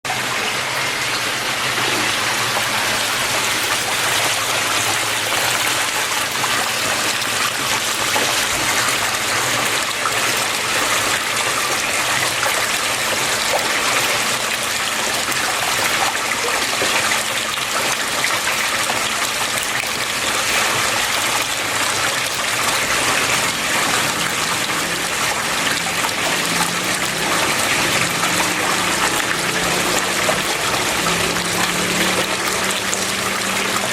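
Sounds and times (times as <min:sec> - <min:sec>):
water flowing and splashing: 0:00.0 - 0:33.9.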